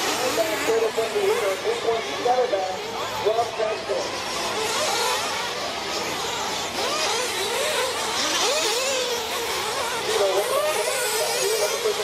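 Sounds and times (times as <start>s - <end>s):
rc truck engines whining: 0.0s - 12.0s.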